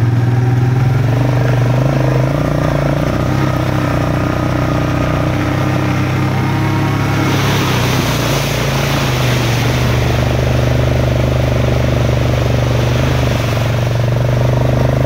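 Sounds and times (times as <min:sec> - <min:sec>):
atv engine running: 0:00.0 - 0:15.0
water splashing: 0:00.7 - 0:15.0.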